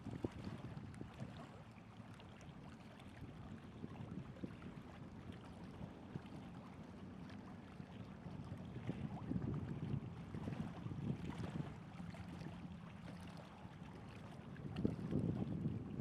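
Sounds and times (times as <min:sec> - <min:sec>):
light wind: 0:00.0 - 0:16.0.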